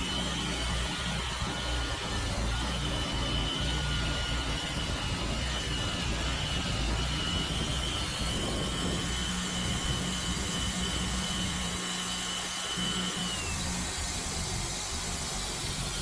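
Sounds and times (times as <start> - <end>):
band sawmill running: 0.0 - 16.0.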